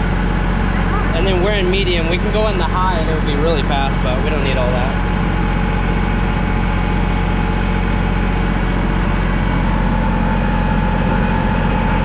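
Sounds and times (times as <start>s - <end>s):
thin steady whine: 0.0s - 12.0s
tractor diesel engine running: 0.0s - 12.0s.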